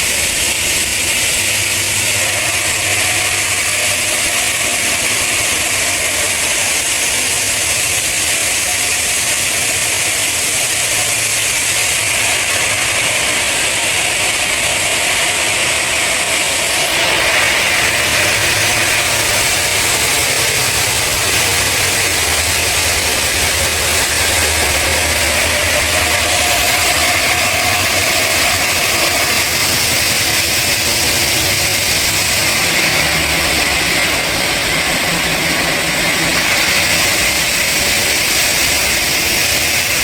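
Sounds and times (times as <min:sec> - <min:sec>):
heavy machinery hissing and humming: 0:00.0 - 0:40.0.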